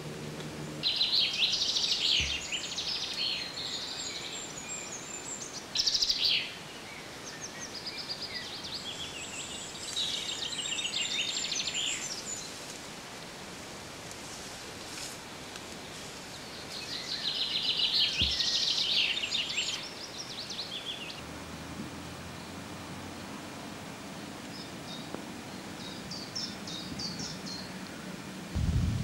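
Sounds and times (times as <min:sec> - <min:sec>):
songbirds chirping and trilling: 0:00.0 - 0:13.4, 0:14.1 - 0:28.6
steady background hiss: 0:00.0 - 0:29.0.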